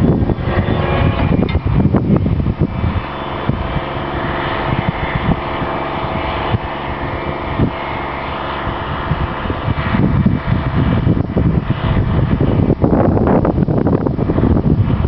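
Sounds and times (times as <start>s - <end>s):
tractor diesel engine under load: 0.0s - 15.0s
wind buffeting microphone: 0.0s - 15.0s.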